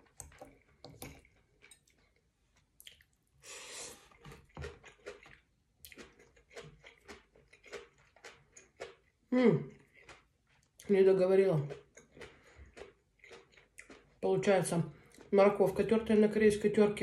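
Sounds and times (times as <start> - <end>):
wet chewing and mouth smacks: 0.0 - 3.4, 4.0 - 11.0, 11.6 - 14.3, 14.9 - 15.4.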